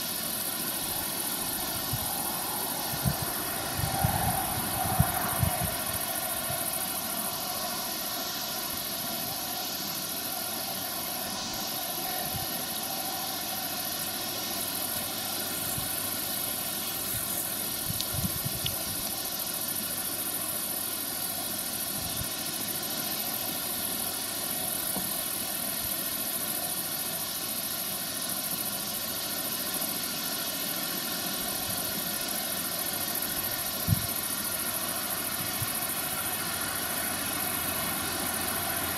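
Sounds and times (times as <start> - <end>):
high hiss: 0.0 - 38.9.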